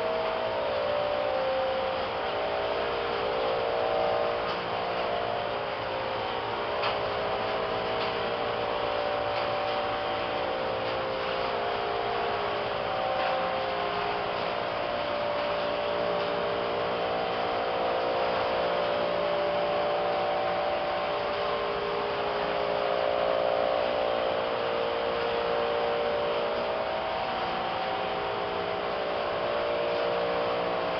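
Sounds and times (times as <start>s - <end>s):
pulsing hum: 0.0s - 30.9s
ventilation fans and machinery droning: 0.0s - 30.9s.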